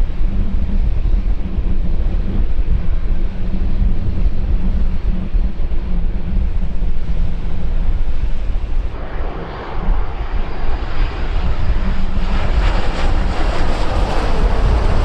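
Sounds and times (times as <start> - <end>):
distant jet airliner drone: 0.0 - 15.0
low rumble: 0.0 - 15.0
wind buffeting microphone: 0.0 - 15.0.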